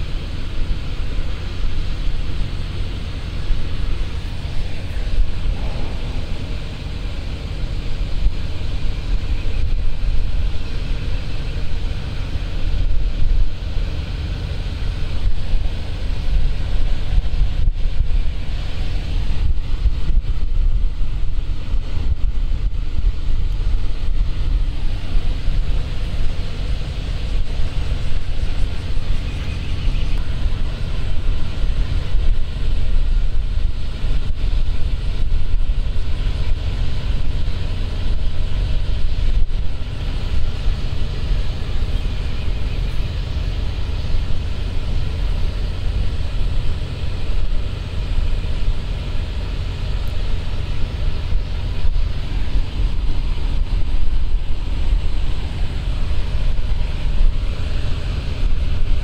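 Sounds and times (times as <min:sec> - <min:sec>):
ship engines rumbling: 0:00.0 - 0:59.0
wind buffeting microphone: 0:00.0 - 0:59.0.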